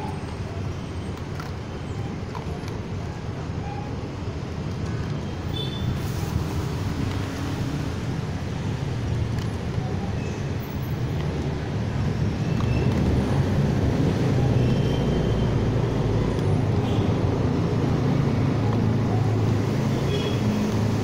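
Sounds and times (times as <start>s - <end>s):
low rumble of motor vehicles: 0.0s - 21.0s.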